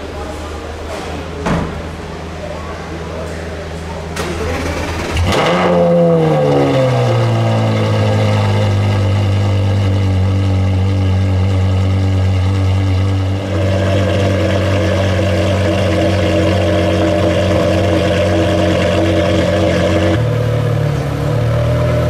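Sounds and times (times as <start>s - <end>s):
car engine idling: 0.1s - 22.0s.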